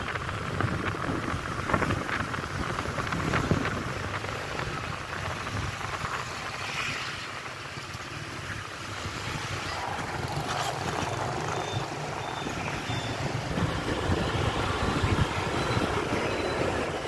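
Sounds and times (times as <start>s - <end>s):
motorbike traffic rushing: 0.0s - 17.0s.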